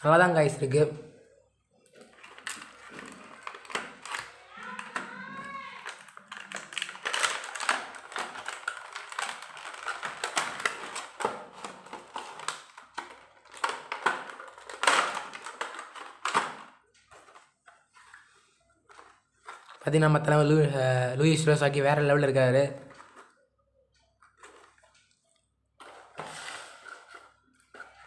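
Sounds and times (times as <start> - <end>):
plastic packaging crinkling: 1.8 - 20.1, 22.0 - 28.0.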